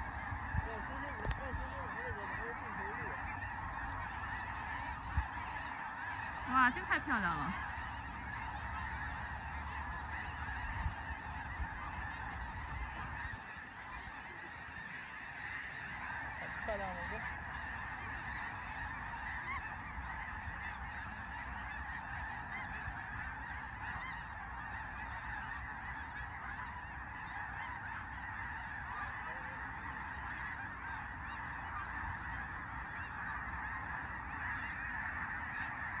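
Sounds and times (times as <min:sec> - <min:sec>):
flock of geese honking: 0:00.0 - 0:36.0.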